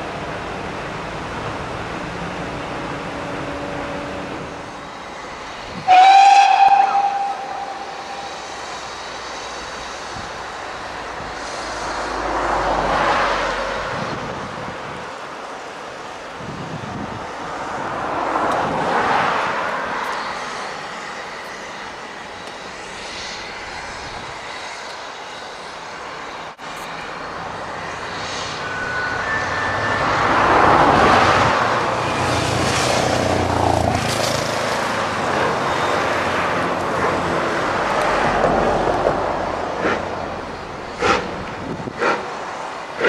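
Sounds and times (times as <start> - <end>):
steam locomotive exhaust chuffing: 2.5 - 14.6, 19.7 - 43.0.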